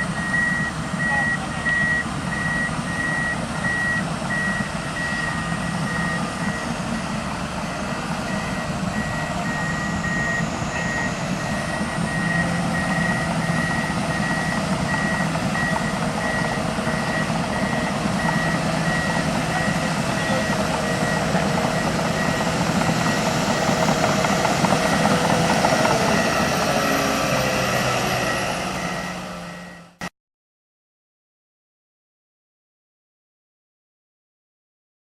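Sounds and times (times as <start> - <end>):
diesel engine rumble: 0.0 - 30.1
reversing alarm beeping: 0.0 - 30.1.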